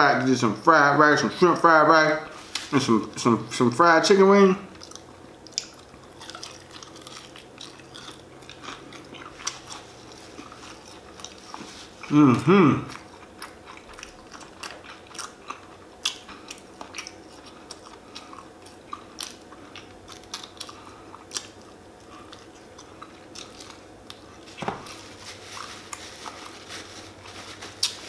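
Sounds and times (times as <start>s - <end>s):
chewing with crunches: 4.7s - 28.0s.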